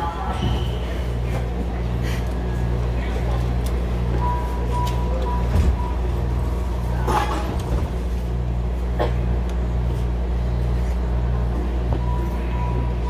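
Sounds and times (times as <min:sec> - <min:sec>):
low hum of train equipment: 0:00.0 - 0:13.0.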